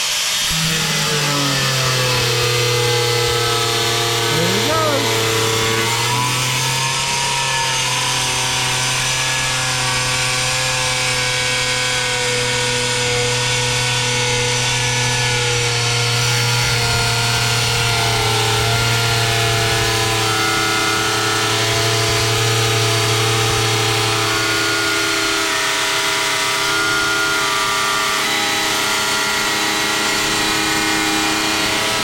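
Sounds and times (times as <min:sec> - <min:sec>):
angle grinder cutting tile: 0:00.0 - 0:32.0.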